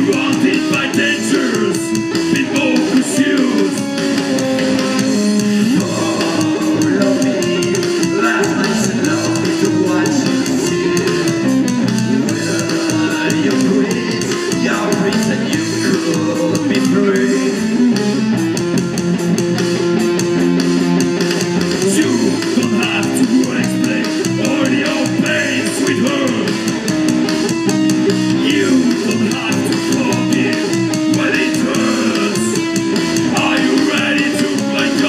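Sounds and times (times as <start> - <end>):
bass guitar: 0.0 - 35.0
drums: 0.0 - 35.0
electric guitars: 0.0 - 35.0.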